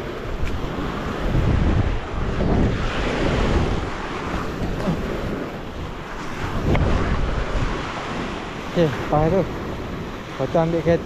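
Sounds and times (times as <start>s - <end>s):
sea waves washing onto beach: 0.0s - 11.0s
wind buffeting microphone: 0.0s - 11.0s.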